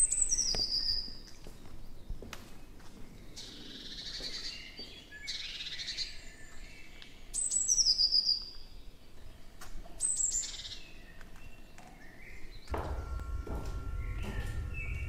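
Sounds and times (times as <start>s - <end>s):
songbirds singing trills: 0.0s - 2.3s, 3.0s - 15.0s.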